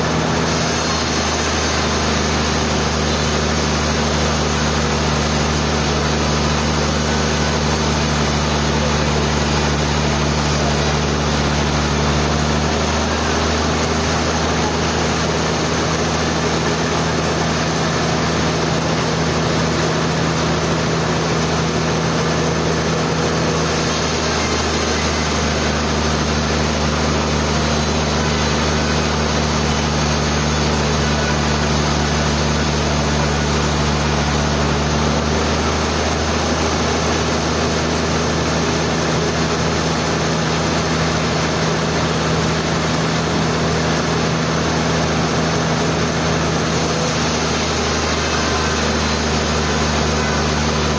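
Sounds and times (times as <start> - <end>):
sawmill machine drone: 0.0 - 50.9.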